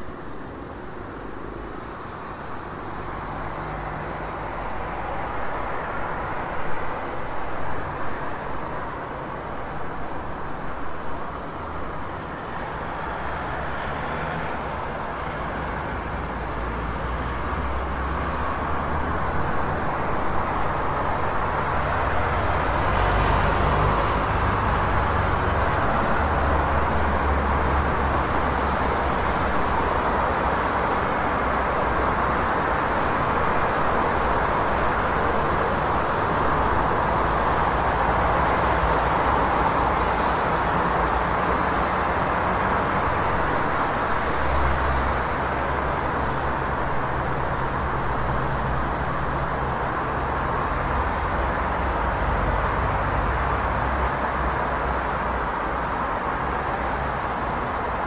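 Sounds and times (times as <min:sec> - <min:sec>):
car engines and tyre noise: 0:00.0 - 0:58.0
low traffic rumble: 0:00.0 - 0:58.0.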